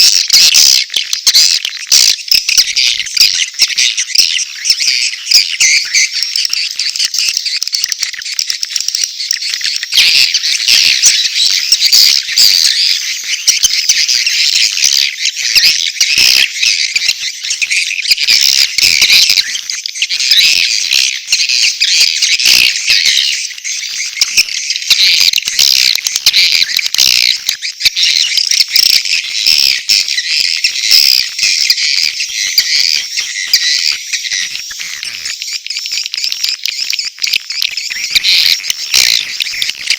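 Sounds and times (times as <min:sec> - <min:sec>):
swiftlets twittering and chirping: 0:00.0 - 0:39.9.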